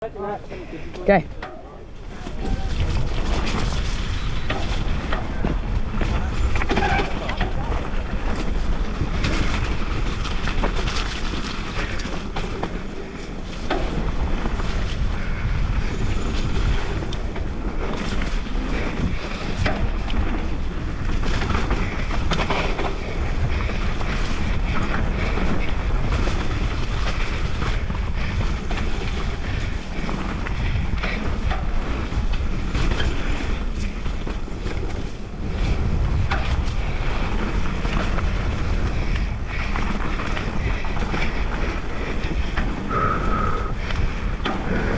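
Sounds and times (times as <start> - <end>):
bike tyres on dirt: 0.0 - 44.9
wind on microphone: 0.0 - 44.9
bike knocks and rattles: 1.4 - 44.9.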